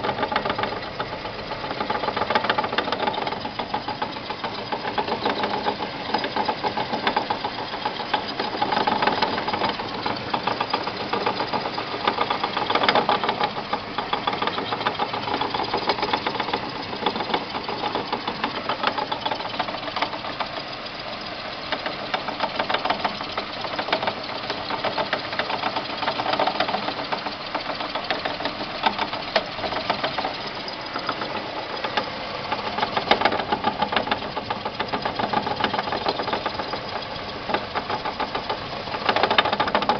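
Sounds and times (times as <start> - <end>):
car engine knocking rattle: 0.0 - 39.9.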